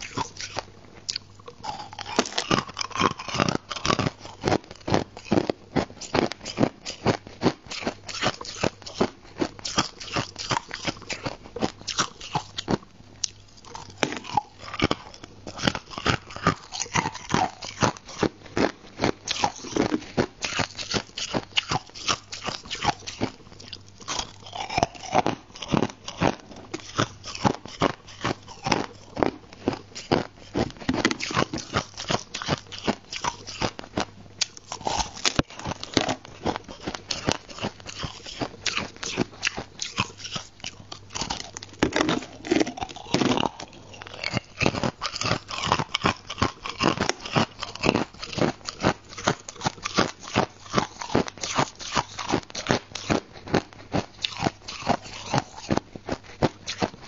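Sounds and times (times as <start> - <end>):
person chewing crushed ice: 0.0 - 57.0.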